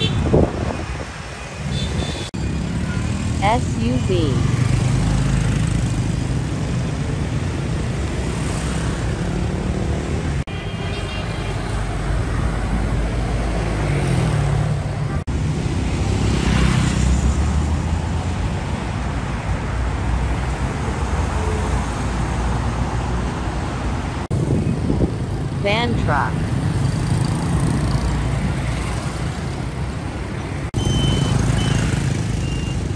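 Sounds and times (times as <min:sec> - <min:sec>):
vehicles passing: 0:00.0 - 0:32.9.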